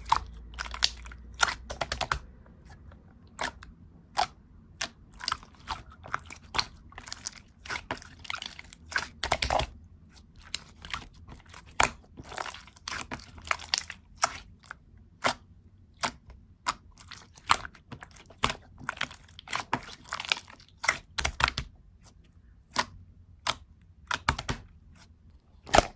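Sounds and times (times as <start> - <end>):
close-up crunching and clicking: 0.0 - 15.4, 16.0 - 25.9.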